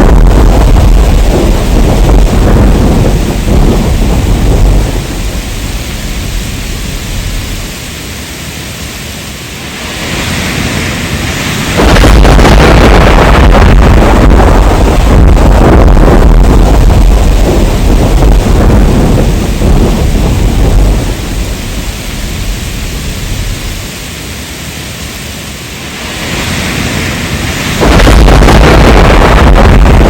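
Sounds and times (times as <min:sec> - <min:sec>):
thunder rumbling: 0:00.0 - 0:25.0, 0:25.7 - 0:30.0
heavy rain: 0:00.0 - 0:30.0.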